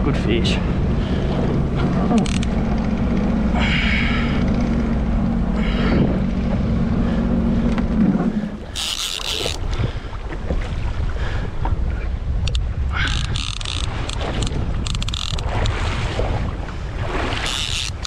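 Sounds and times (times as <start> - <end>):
jet ski engine running: 0.0 - 18.0
wind and water rushing: 0.0 - 18.0.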